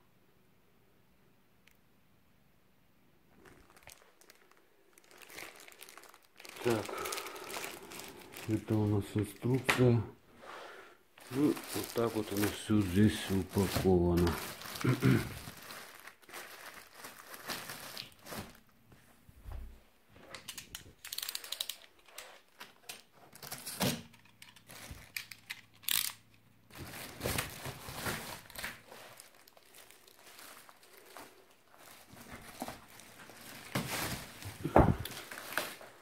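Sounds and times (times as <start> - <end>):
packaging crinkling and rustling: 3.3 - 10.0, 11.2 - 18.8, 20.2 - 36.0
packaging tearing: 3.4 - 9.6, 11.2 - 18.6, 20.5 - 36.0.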